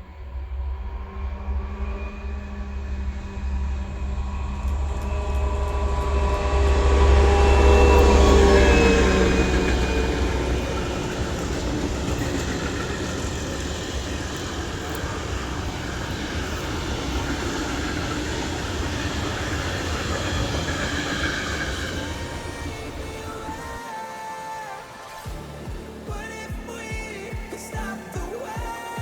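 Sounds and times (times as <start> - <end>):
locomotive hum passing: 0.0 - 29.0
train cars rumbling past: 0.0 - 29.0.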